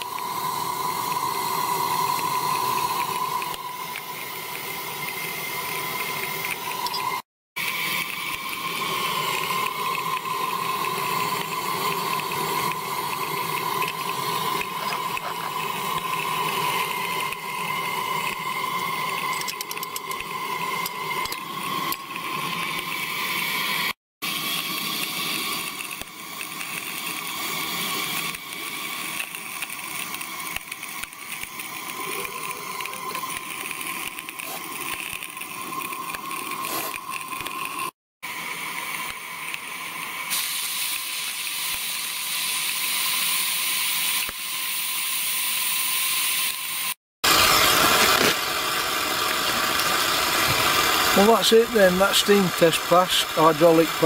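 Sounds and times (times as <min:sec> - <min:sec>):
steam locomotive whine and hiss: 0:00.0 - 0:54.0.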